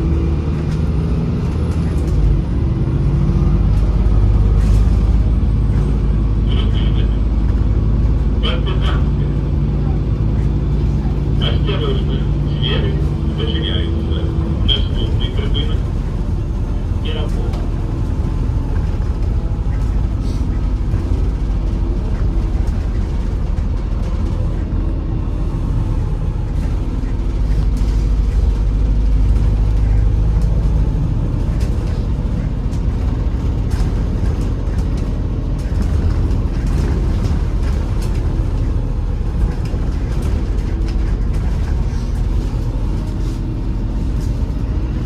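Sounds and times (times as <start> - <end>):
bus engine and road rumble: 0.0 - 45.0
interior clicks and rattles: 0.0 - 45.0.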